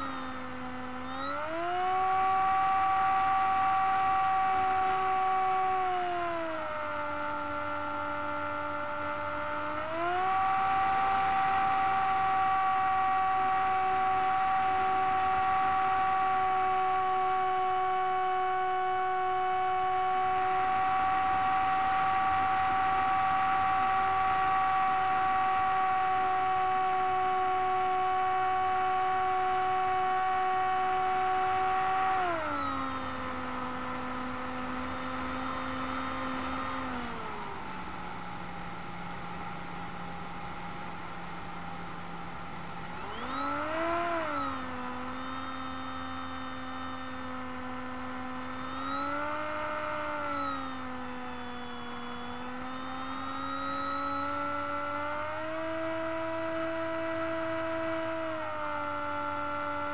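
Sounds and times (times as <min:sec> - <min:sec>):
model plane motor whining: 0:00.0 - 0:59.9.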